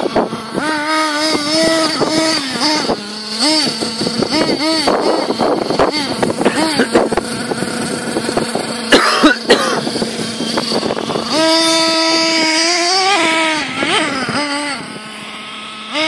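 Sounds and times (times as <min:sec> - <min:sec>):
small nitro engine revving: 0:00.0 - 0:16.0.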